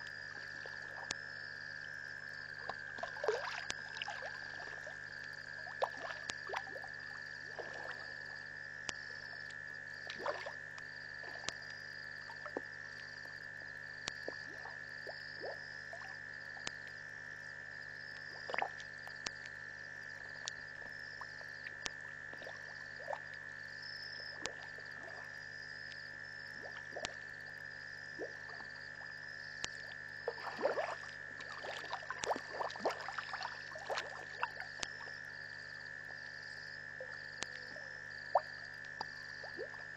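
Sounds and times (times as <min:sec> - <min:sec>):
frogs clicking calls: 0:00.0 - 0:17.0, 0:17.9 - 0:39.9.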